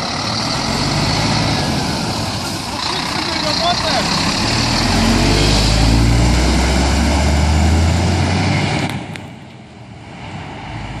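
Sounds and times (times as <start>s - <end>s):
truck engine pulling away: 0.0s - 11.0s.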